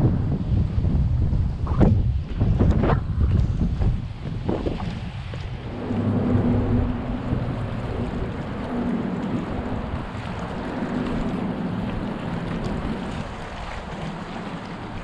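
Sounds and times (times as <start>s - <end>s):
low hum: 0.0s - 15.0s
wind buffeting microphone: 0.0s - 15.0s
waves lapping on rocks: 1.7s - 15.0s.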